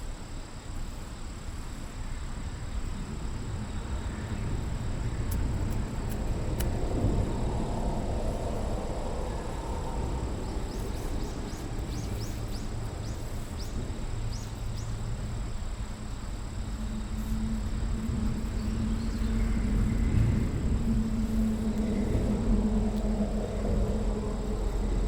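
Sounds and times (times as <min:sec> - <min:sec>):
high insect whine: 0:00.0 - 0:25.0
steady low rumble: 0:00.0 - 0:25.0
low hum: 0:02.2 - 0:25.0.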